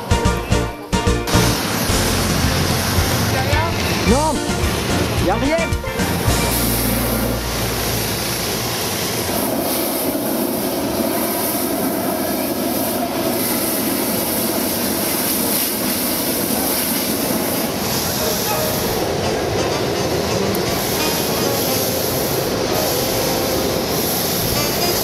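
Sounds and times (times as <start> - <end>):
propane burner blast: 0.0 - 25.0.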